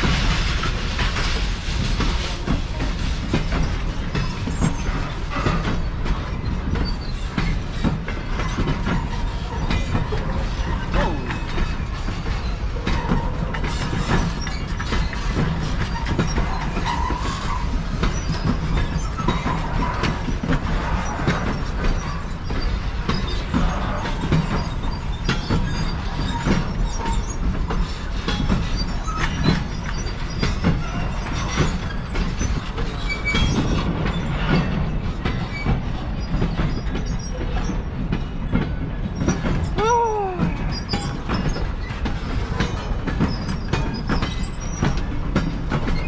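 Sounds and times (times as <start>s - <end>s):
clicks over rail joints: 0.0s - 46.0s
train wheels rumbling on rails: 0.0s - 46.0s.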